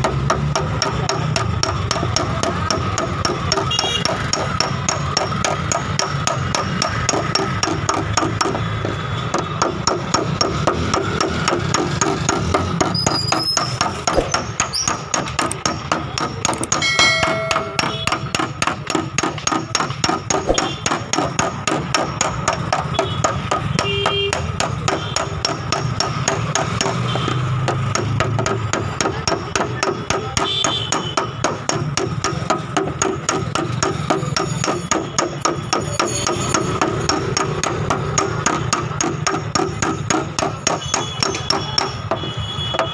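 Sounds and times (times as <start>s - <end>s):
rapid hammer taps on metal: 0.0s - 42.9s.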